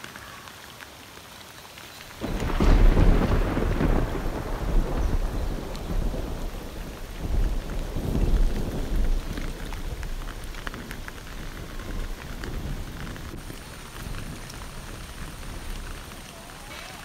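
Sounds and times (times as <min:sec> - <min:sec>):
rain splashing on water: 0:00.0 - 0:17.0
low thunder rumble: 0:02.1 - 0:17.0.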